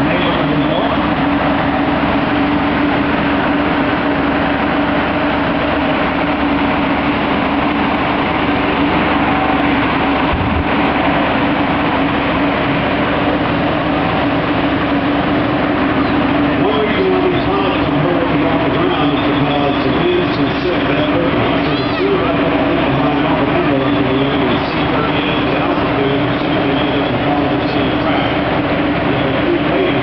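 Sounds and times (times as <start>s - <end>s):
engine hum: 0.0s - 30.0s
inflator fans blowing air: 0.0s - 30.0s.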